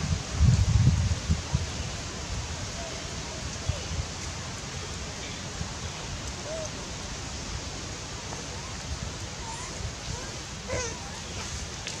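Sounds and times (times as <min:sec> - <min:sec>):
forest hiss with low rumble: 0:00.0 - 0:12.0.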